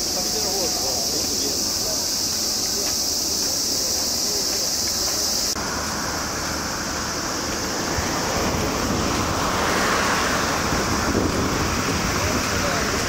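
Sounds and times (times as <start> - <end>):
insects chirring: 0.0 - 13.0
steady rushing noise: 0.0 - 13.0.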